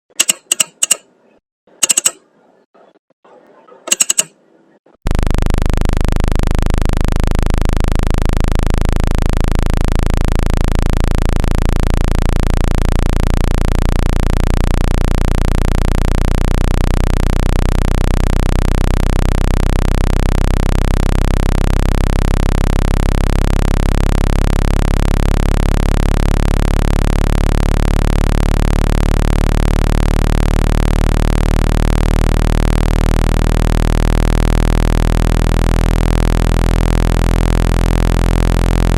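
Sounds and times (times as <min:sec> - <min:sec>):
low-pitched synthesized tone: 0:05.1 - 0:38.9.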